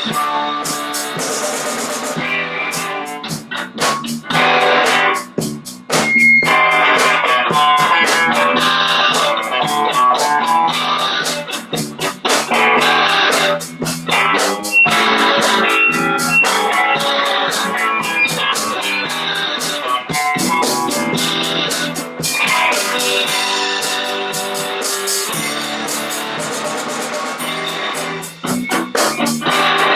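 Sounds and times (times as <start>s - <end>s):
bass guitar: 0.0s - 29.9s
drums keeping a steady beat: 0.0s - 29.9s
electric guitar chords: 0.0s - 29.9s.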